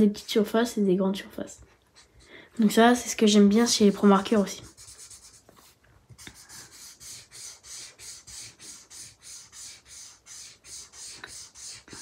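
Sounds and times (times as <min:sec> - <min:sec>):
marker rubbing on paper: 0:02.0 - 0:12.0.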